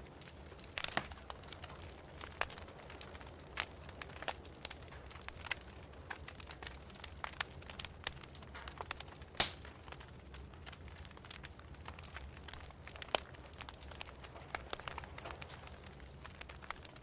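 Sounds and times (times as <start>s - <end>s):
wood fire crackling: 0.0s - 17.0s
sharp pops of burning wood: 0.2s - 17.0s.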